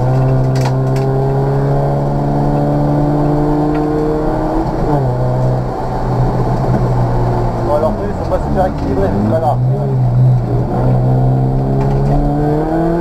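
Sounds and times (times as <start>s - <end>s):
car engine revving under full throttle: 0.0s - 13.0s.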